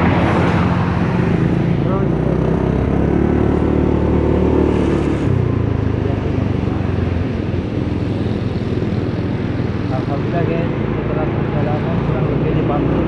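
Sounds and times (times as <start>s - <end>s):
road and wind noise: 0.0s - 13.0s
vehicle engine rumble: 0.0s - 13.0s.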